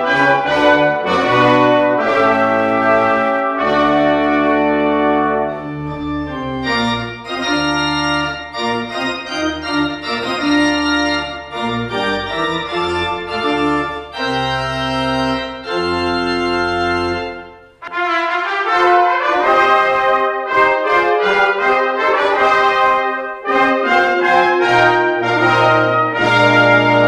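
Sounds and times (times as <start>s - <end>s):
pipe organ chords: 0.0s - 27.0s.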